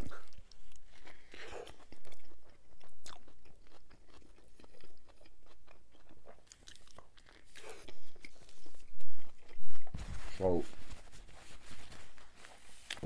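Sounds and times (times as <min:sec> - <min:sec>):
wet chewing with crunches: 0:00.0 - 0:13.0.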